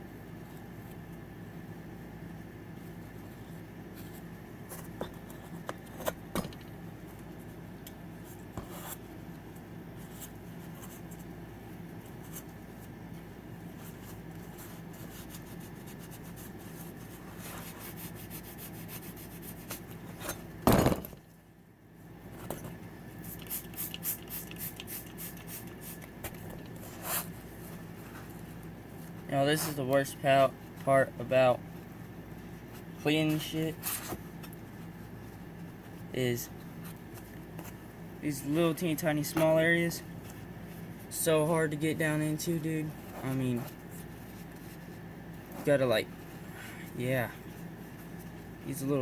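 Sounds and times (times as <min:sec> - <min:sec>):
background hum: 0:00.0 - 0:49.0.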